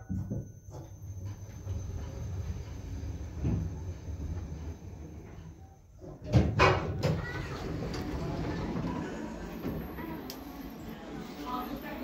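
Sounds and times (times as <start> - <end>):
lift car rumble: 0.6 - 6.2, 6.8 - 12.0.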